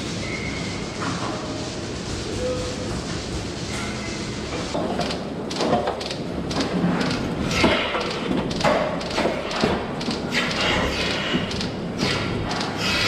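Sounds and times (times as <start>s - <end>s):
milking equipment hum: 0.0s - 13.0s
milking units knocking and clattering: 0.0s - 13.0s.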